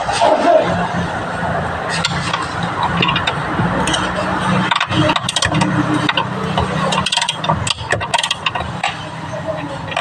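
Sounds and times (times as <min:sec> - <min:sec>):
vehicle engine running: 0:00.0 - 0:10.0
metallic clicks and clatter: 0:01.9 - 0:10.0.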